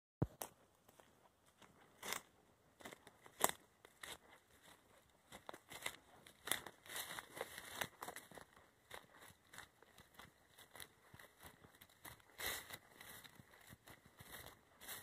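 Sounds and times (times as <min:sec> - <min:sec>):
footsteps through grass: 0:00.9 - 0:15.0.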